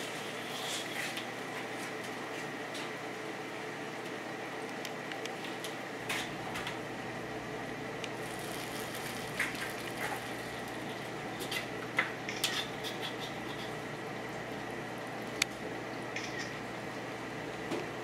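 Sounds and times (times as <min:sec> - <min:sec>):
kitchen background hum: 0:00.0 - 0:18.0.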